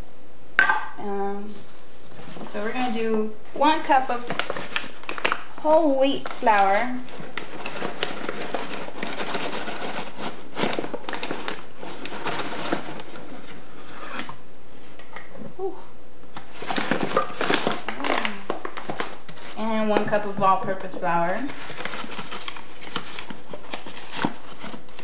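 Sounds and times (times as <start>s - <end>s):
paper bag crinkling: 1.6s - 14.9s, 16.4s - 25.0s.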